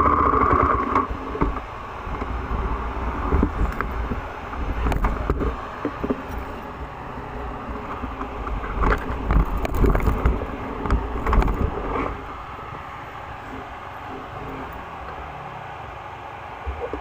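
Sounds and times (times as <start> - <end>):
knocks and rattles over bumps: 0.0 - 15.2
dirt bike engine running: 0.0 - 15.6.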